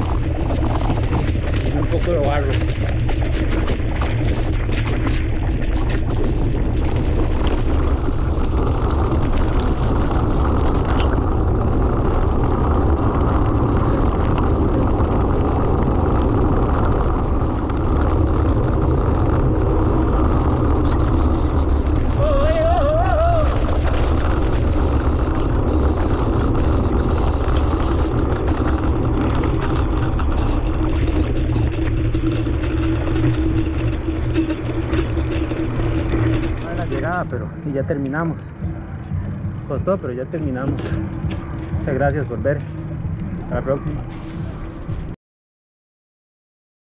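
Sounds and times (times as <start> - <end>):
tyres rolling on gravel: 0.0 - 45.1
wind buffeting camera: 0.0 - 45.2.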